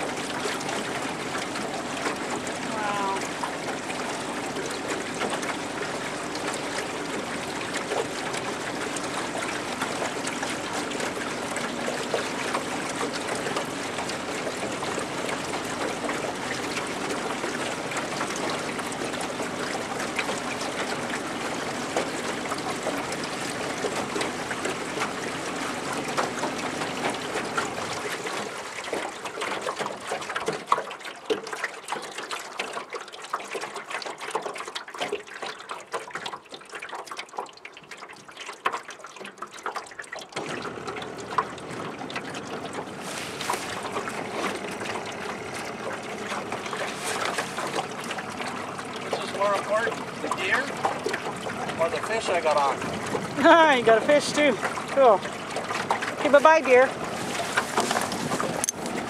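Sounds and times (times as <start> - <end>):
water lapping against boat hull: 0.0 - 59.0.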